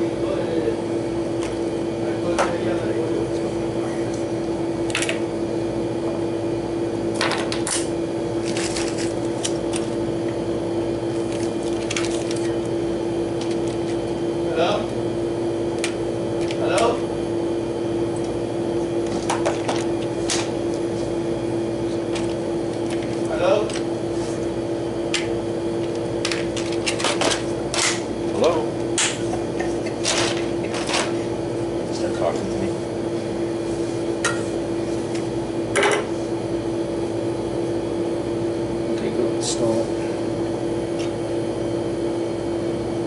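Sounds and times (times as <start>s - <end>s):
machine hum: 0.0s - 43.0s.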